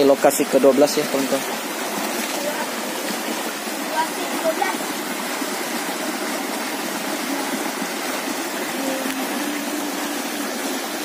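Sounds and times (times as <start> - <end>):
water rushing over stones: 0.0 - 11.0.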